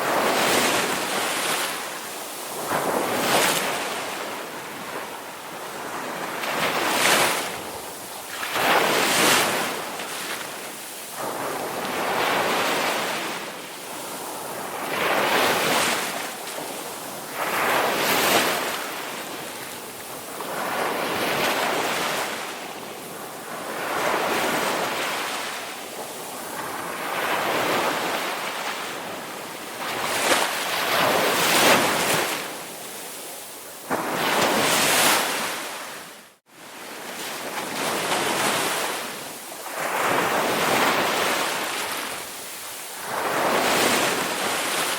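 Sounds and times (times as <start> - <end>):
ocean waves breaking: 0.0 - 44.9.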